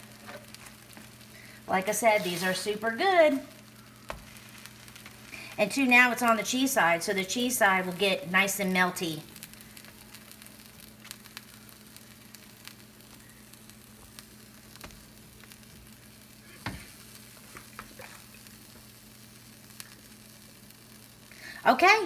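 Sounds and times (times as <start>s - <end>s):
faint hum: 0.0s - 22.0s
sandwiches sizzling in a pan: 0.0s - 22.0s.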